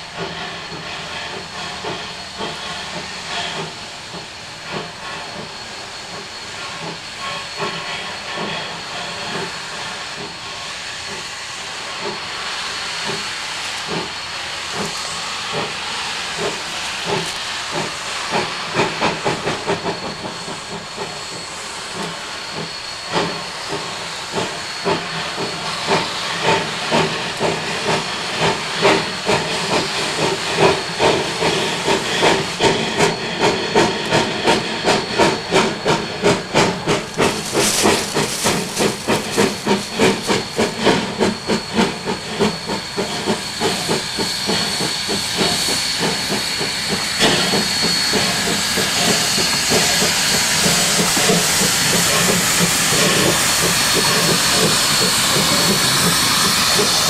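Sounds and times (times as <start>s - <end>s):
steam hissing: 0.0s - 57.0s
steam locomotive chuffing: 0.0s - 57.0s.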